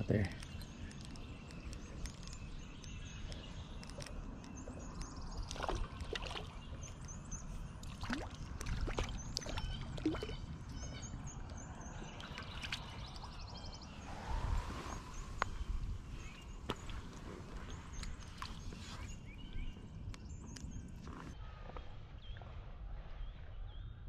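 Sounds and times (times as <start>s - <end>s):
low wind rumble on microphone: 0.0s - 24.0s.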